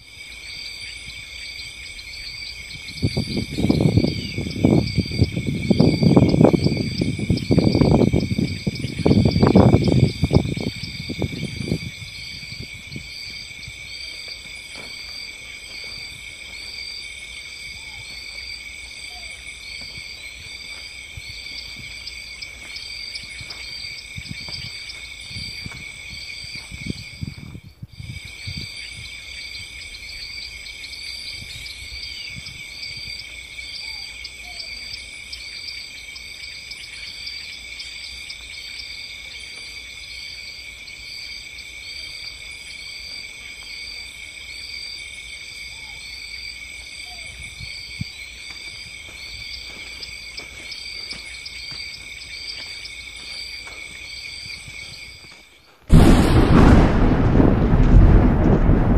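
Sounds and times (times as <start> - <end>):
insect chirring: 0.0 - 58.9.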